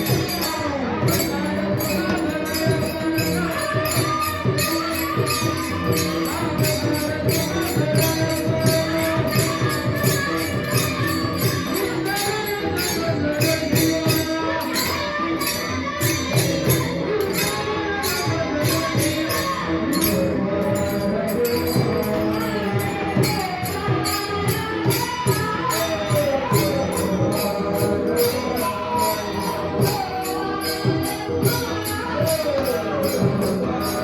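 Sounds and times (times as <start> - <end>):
hand cymbals jingling: 0.0 - 34.0
voices singing devotional song: 0.0 - 34.0.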